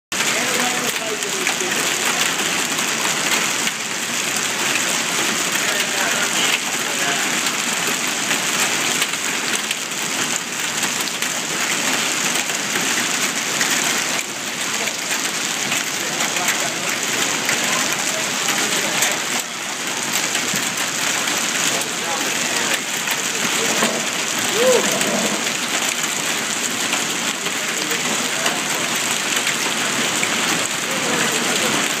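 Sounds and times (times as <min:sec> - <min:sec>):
hailstones falling: 0:00.2 - 0:32.0.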